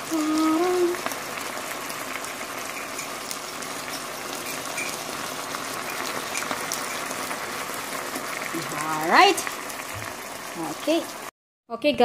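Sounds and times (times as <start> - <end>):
small crackles: 0.0 - 11.2
sauce simmering in a pan: 0.0 - 11.3.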